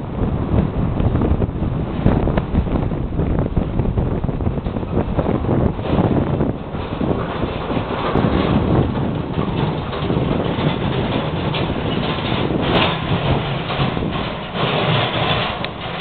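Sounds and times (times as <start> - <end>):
steam locomotive running: 0.0 - 16.0.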